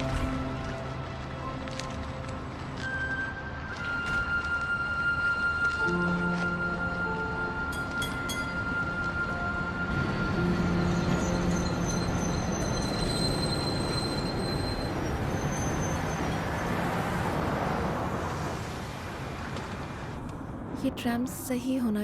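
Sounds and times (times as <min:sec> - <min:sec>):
wheels squealing: 0:00.0 - 0:18.5
tram rumbling on rails: 0:00.0 - 0:21.4.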